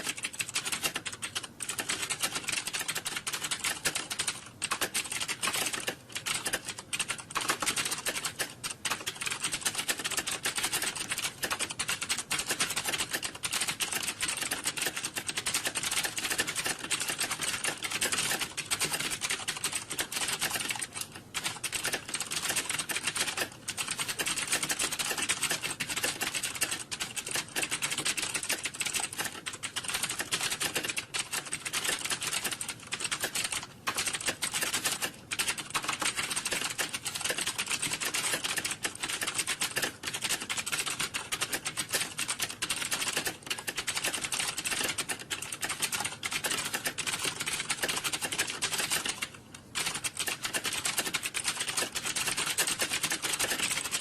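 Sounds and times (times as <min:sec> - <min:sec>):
keyboard typing clatter: 0:00.0 - 0:54.0.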